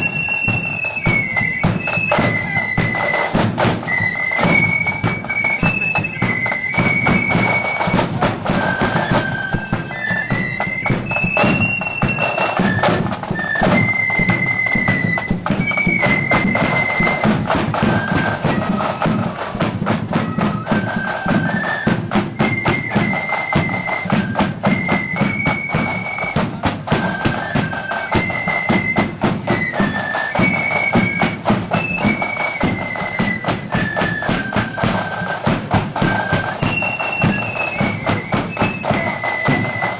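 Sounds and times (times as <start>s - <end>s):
flutes playing high melody: 0.0s - 39.9s
rapid snare drumming: 0.0s - 39.9s.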